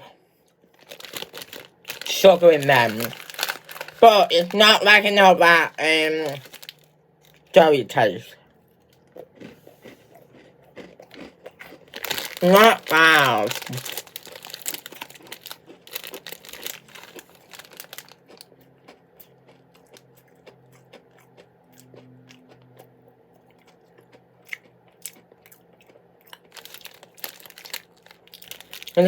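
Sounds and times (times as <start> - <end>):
crunchy chewing of biscuit: 0.3 - 7.6, 8.4 - 29.0.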